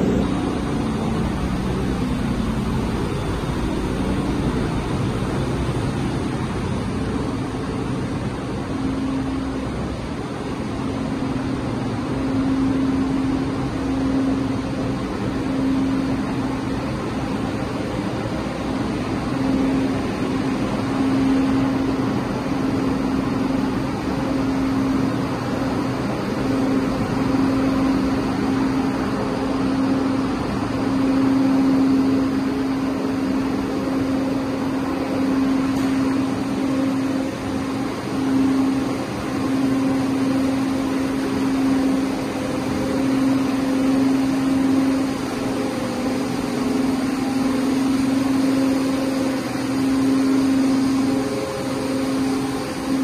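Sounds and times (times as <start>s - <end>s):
industrial machinery droning: 0.0s - 53.0s
low hum: 0.0s - 53.0s.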